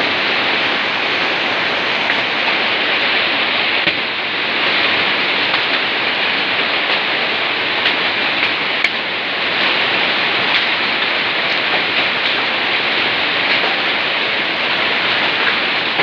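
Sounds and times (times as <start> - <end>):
heavy rain downpour: 0.0 - 16.0.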